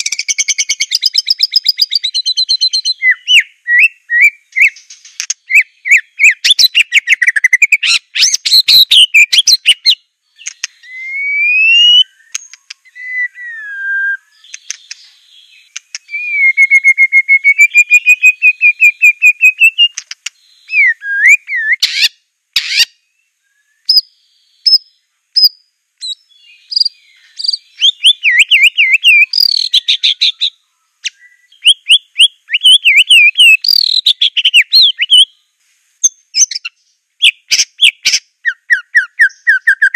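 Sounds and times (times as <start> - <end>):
bird singing whistles and trills: 0.0 - 35.4, 36.0 - 39.9.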